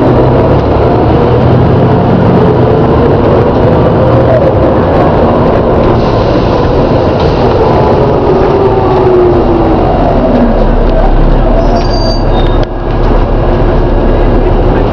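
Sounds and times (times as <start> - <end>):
bus engine groaning: 0.0 - 14.9
road rumble: 0.0 - 14.9.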